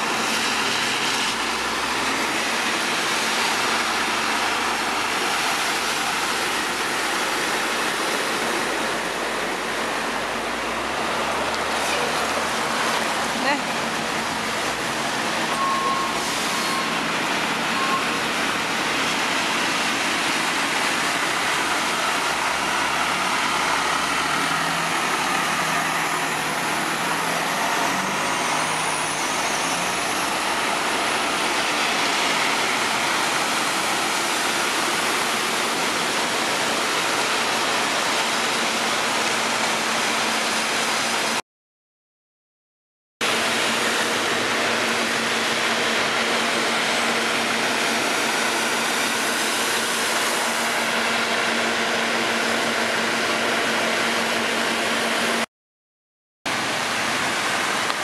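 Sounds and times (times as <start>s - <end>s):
floodwater flowing: 0.0s - 41.4s, 43.2s - 55.4s, 56.5s - 58.0s
traffic driving through floodwater: 0.0s - 41.4s, 43.2s - 55.5s, 56.5s - 58.0s.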